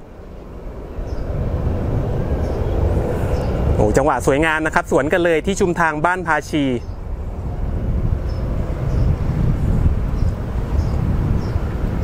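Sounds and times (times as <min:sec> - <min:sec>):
diesel trains passing: 0:00.0 - 0:12.0.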